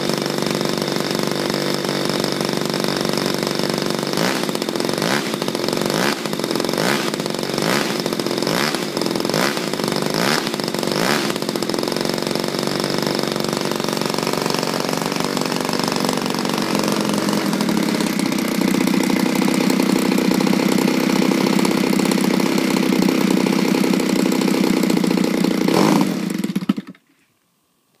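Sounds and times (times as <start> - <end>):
model plane engine running: 0.0 - 27.0.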